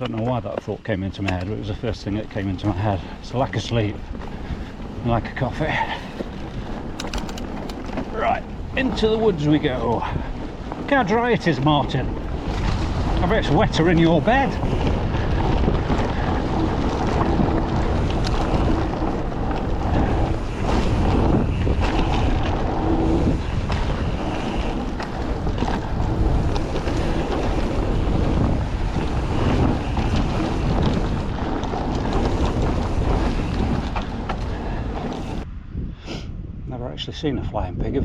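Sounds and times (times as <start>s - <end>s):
bike knocking and rattling: 0.0s - 35.5s
bike tyre noise: 0.0s - 35.5s
wind buffeting microphone: 0.0s - 38.0s.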